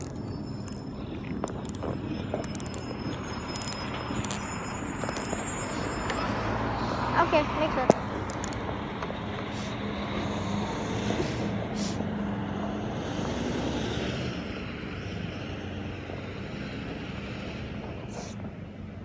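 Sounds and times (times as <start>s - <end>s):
diesel locomotive engine humming: 0.0s - 19.0s.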